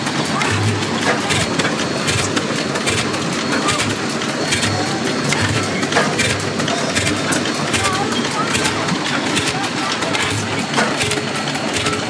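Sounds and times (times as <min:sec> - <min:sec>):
stationary engine clattering: 0:00.0 - 0:12.0.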